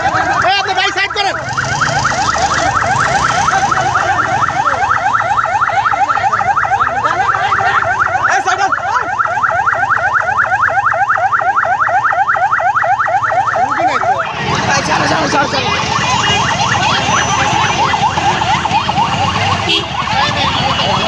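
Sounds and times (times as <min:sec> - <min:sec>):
ambulance siren yelping: 0:00.0 - 0:21.0.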